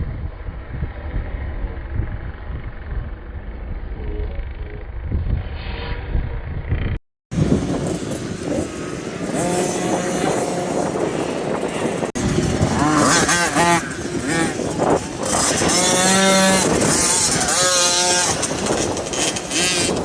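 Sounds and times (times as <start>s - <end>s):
motocross bike engines revving: 0.1s - 20.0s.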